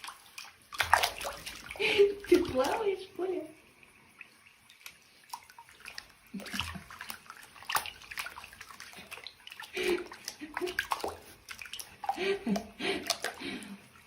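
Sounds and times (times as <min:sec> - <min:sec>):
water splashing in a basin: 0:00.0 - 0:14.0.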